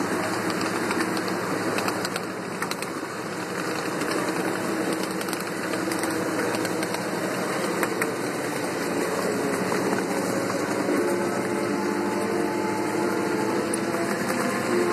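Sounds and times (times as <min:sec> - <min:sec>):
drive hum: 0:00.0 - 0:14.9
steel wheels rumbling on rail: 0:00.0 - 0:14.9
wheels clicking over rail joints: 0:00.0 - 0:14.9.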